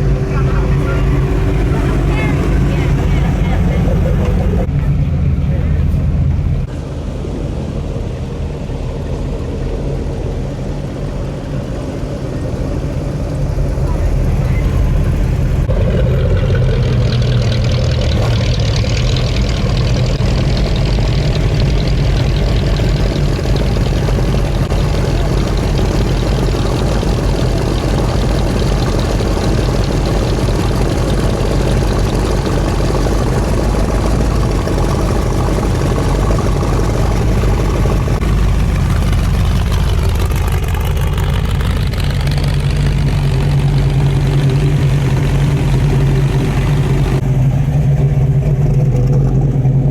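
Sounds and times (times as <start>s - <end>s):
car engine rumbling: 0.0s - 49.9s.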